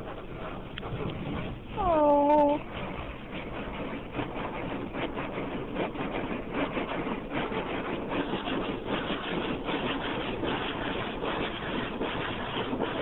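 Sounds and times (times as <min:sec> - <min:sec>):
water spray on car body: 0:00.0 - 0:13.0.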